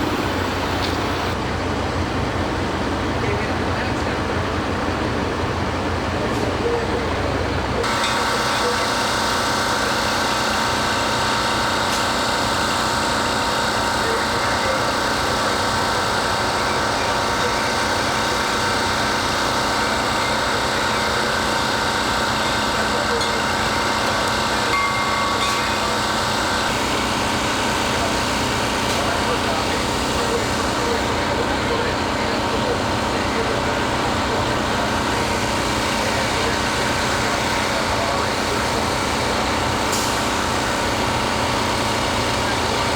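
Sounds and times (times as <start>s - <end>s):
engine running with high whine: 0.0s - 42.9s.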